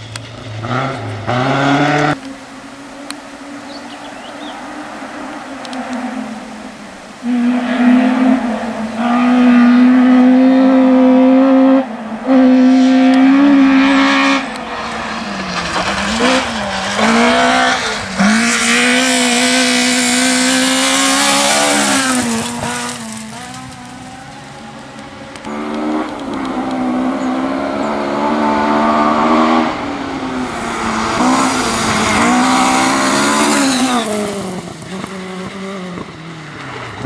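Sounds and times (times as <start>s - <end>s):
rally car engine revving: 0.0s - 2.4s, 3.5s - 37.0s.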